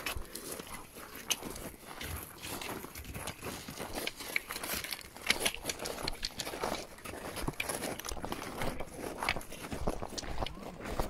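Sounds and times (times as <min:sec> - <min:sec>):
footsteps crunching on loose rock: 0:00.0 - 0:11.0.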